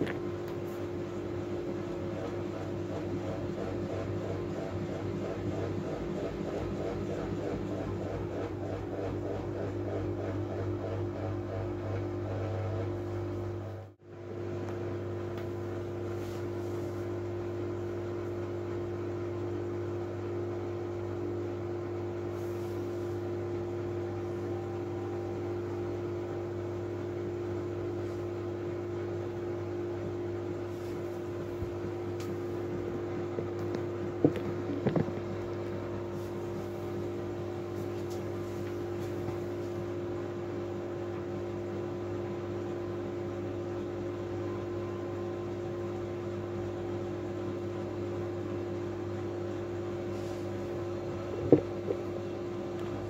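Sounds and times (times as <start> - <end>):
washing machine motor hum: 0.0 - 53.0.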